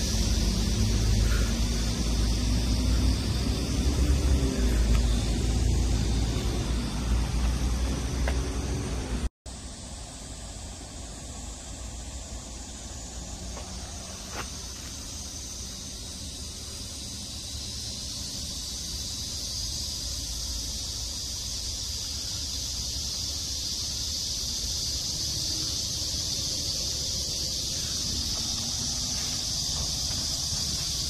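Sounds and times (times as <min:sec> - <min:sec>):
high-pitched insect drone: 0:00.0 - 0:31.0
low outdoor rumble: 0:00.0 - 0:31.0.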